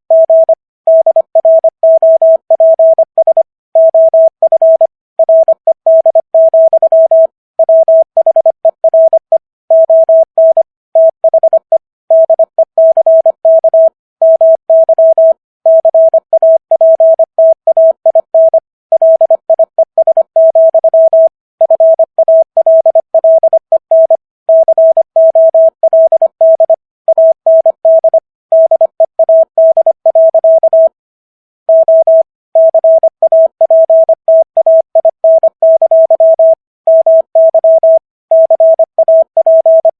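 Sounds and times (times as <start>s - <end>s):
morse code beeps: 0.1s - 31.0s, 31.7s - 39.9s.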